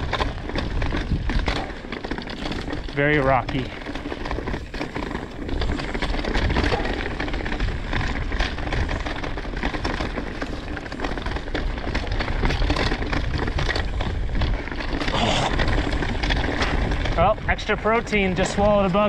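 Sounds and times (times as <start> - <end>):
bike rattling: 0.0 - 19.0
bike tyres crunching over rocks: 0.0 - 19.0.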